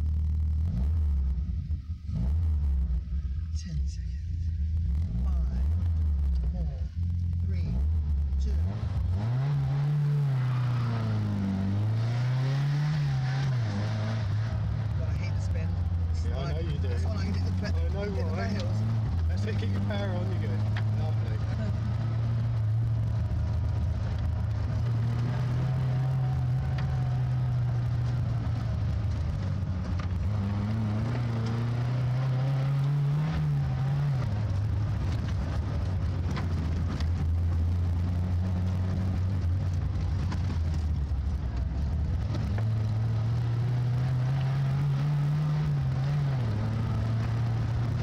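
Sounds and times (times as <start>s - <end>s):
car engine revving from inside: 0.0s - 48.0s.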